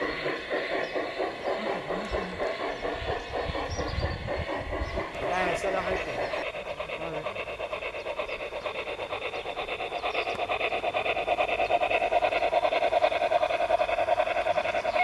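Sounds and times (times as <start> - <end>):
steam locomotive chuffing from loudspeaker: 0.0 - 15.0.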